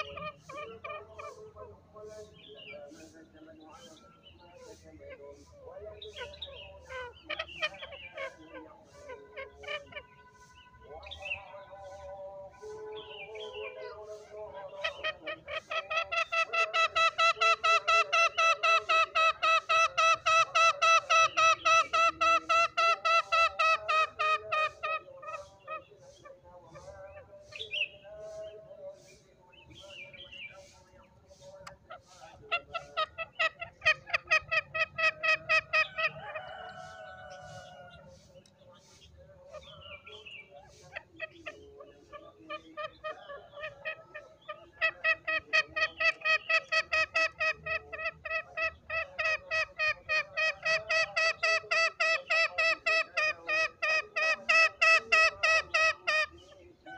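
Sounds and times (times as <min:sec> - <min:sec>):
junglefowl calling: 0:00.0 - 0:56.9.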